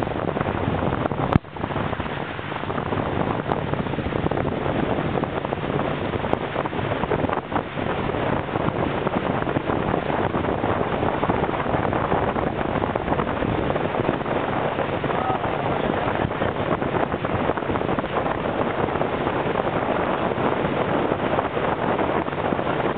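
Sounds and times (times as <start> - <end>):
boat engine running: 0.0 - 22.9
wind rushing over microphone: 0.0 - 22.9.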